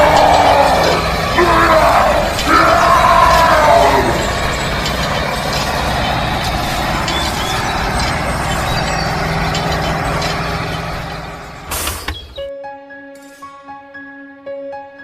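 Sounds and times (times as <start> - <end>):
motor humming: 0.0 - 12.3.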